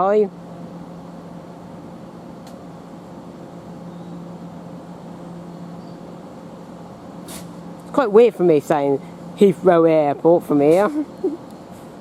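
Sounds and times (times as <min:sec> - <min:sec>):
train electrical hum: 0:00.0 - 0:12.0.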